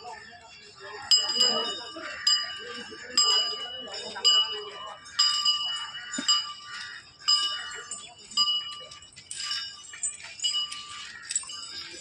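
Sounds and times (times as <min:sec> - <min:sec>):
metal bell ringing: 0:00.0 - 0:12.0.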